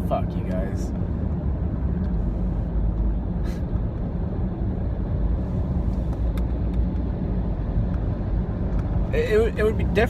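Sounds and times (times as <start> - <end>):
car road noise from inside: 0.0 - 10.0.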